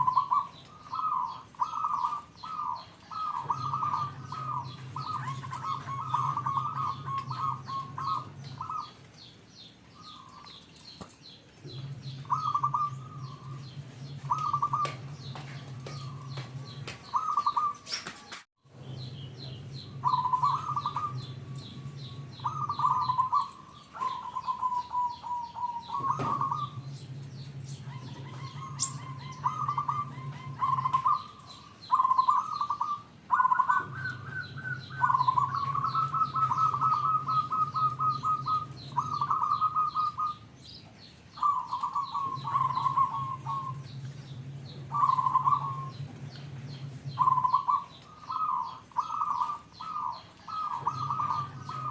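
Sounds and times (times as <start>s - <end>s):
dove cooing in rolling phrases: 0.0s - 9.3s, 11.6s - 18.0s, 18.7s - 51.9s.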